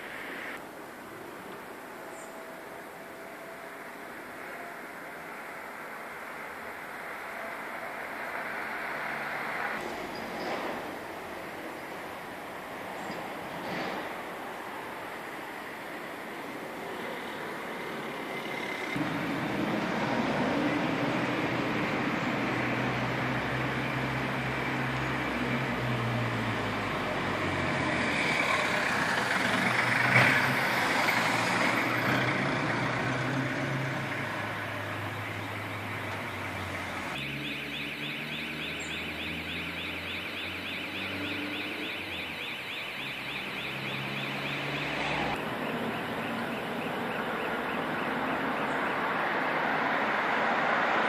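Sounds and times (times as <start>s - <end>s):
cars driving past: 4.3s - 51.0s.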